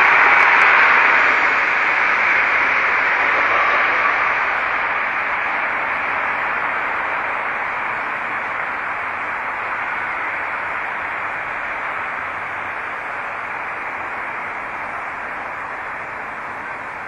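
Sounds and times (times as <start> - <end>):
steady static hiss: 0.0 - 17.0.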